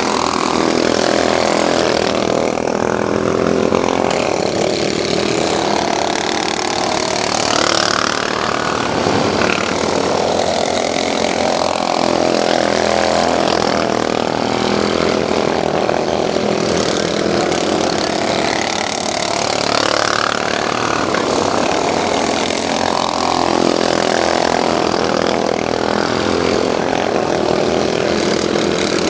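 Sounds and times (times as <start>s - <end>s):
racing lawn mower engines: 0.0s - 29.0s.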